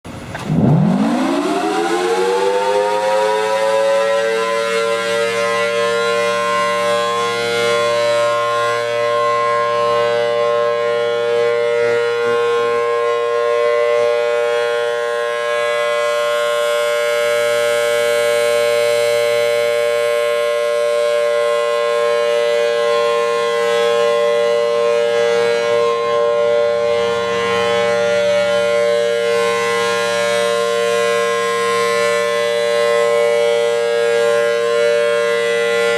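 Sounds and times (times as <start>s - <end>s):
civil defense siren: 0.1s - 35.9s.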